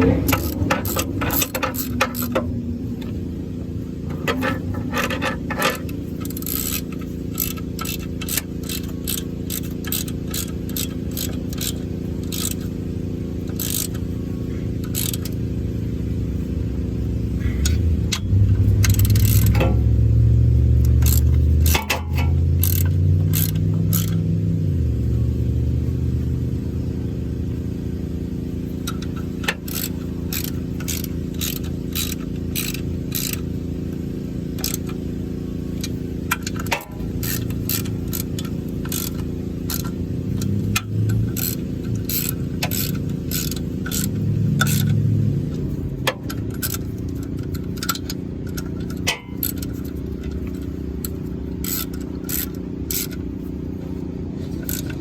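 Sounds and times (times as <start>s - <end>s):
hand ratchet clicking: 0.0s - 3.2s, 4.1s - 14.2s, 14.8s - 15.5s, 17.4s - 24.4s, 28.7s - 35.1s, 35.7s - 55.0s
steady low hum: 0.0s - 55.0s.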